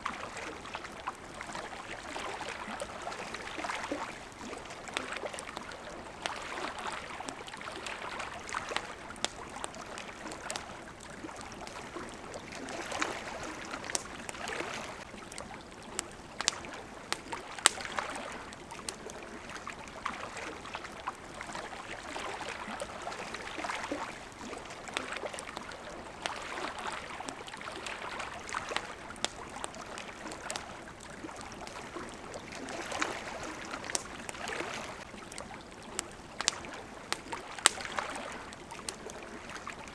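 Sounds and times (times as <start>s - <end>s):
campfire crackling and popping: 0.0s - 39.9s
small waves lapping at shore: 0.0s - 39.9s.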